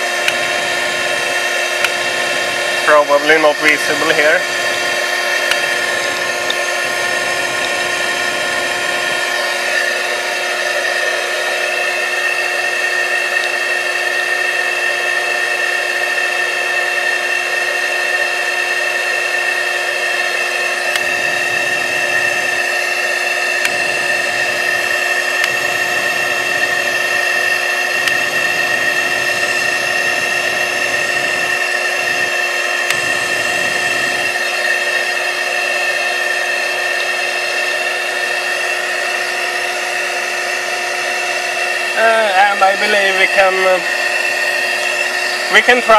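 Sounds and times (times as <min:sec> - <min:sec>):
electric blower whining: 0:00.0 - 0:45.9.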